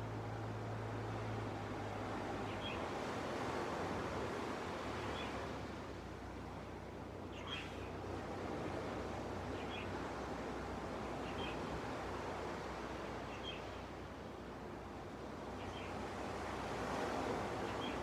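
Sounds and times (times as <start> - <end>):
waves washing on a beach: 0.0 - 18.0.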